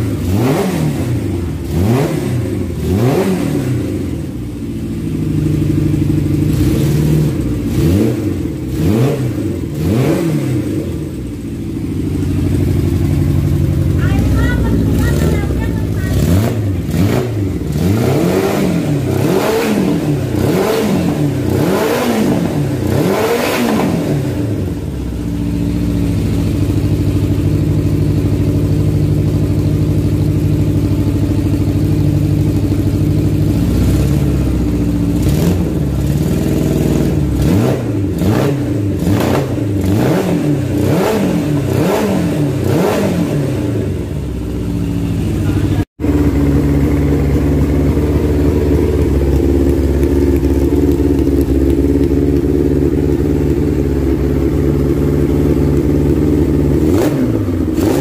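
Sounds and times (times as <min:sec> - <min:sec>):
motorcycle engine idling: 0:00.0 - 0:42.6, 0:43.3 - 0:58.0
motorcycle engine revving: 0:00.0 - 0:58.0.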